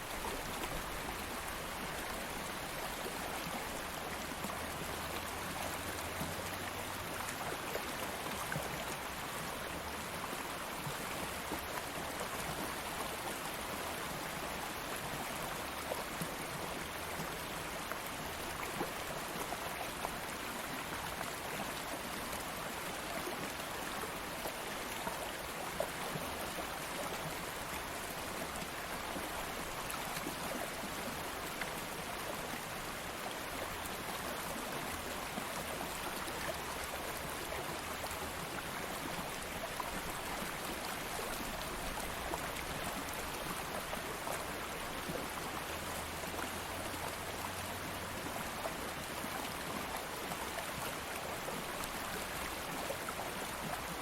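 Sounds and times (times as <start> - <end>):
stream of water flowing: 0.0 - 54.0.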